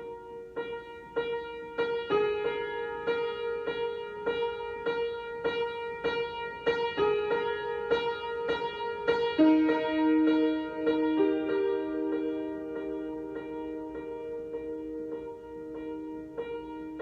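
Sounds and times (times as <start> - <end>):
repeated piano note over chords: 0.0 - 17.0.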